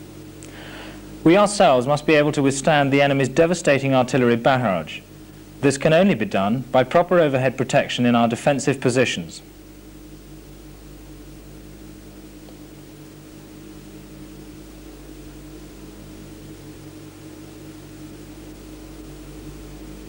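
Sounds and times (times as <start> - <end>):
pulsing electrical hum: 0.0 - 20.0.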